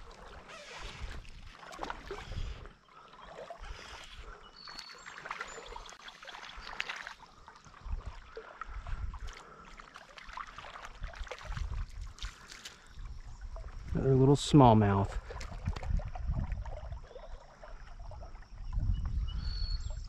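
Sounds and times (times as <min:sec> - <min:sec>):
small water splashes: 0:00.0 - 0:19.6
creek water trickling: 0:00.0 - 0:20.0
water bumping microphone: 0:00.0 - 0:20.0.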